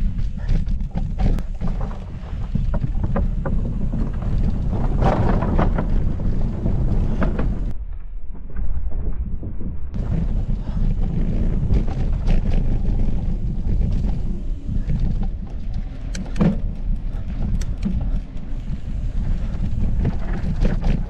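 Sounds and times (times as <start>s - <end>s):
bike clicks and rattles: 0.0s - 7.7s, 10.0s - 21.0s
bike tyres rumbling: 0.0s - 21.0s
wind buffeting microphone: 0.0s - 21.0s.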